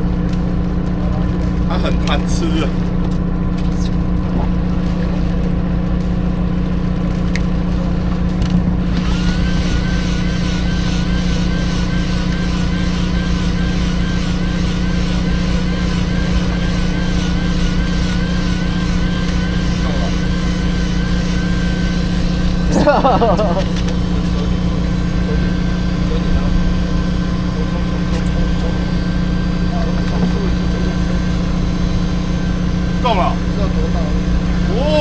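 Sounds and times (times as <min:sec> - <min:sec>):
boat engine humming: 0:00.0 - 0:35.0
wobbling high whine: 0:00.0 - 0:35.0.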